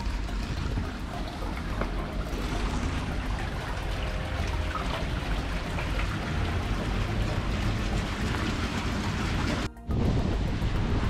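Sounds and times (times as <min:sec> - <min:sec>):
meltwater pouring into ice shaft: 0:00.0 - 0:11.0
water splashing: 0:00.0 - 0:11.0.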